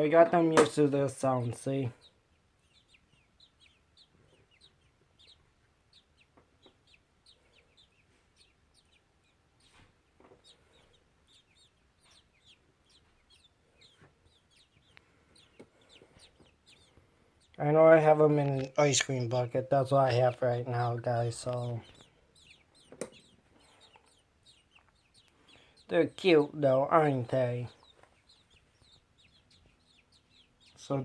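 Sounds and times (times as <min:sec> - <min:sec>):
baby birds cheeping: 0:00.0 - 0:31.0.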